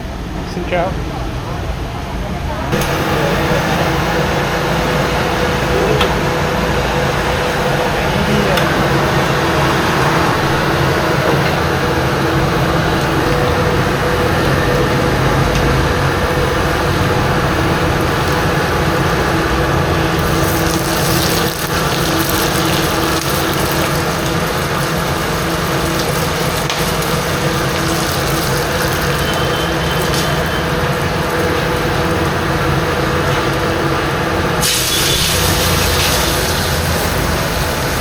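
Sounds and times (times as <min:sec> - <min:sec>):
kitchen equipment rushing noise: 0:02.7 - 0:33.8.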